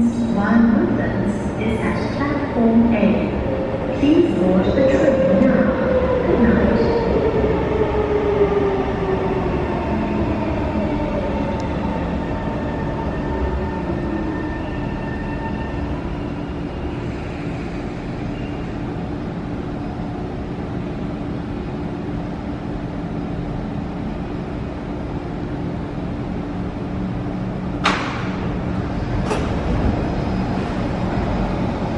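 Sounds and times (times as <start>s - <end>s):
electric train hum: 0.0s - 31.9s.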